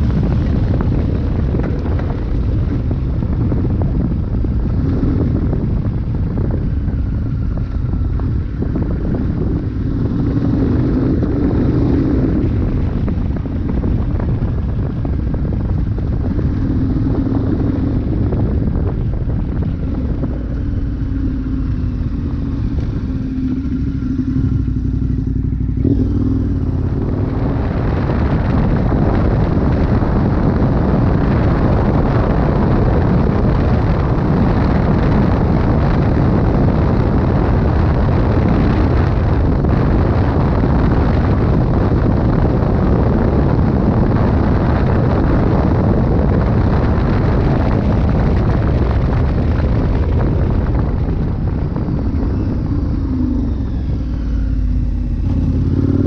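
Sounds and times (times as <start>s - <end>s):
motorcycle engine accelerating: 0.0s - 56.0s
wind rushing over microphone: 0.0s - 56.0s.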